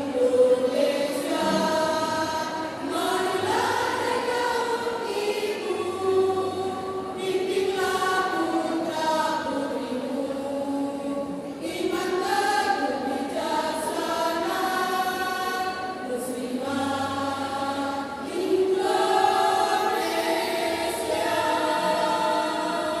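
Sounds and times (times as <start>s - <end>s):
women's choir singing: 0.0s - 23.0s.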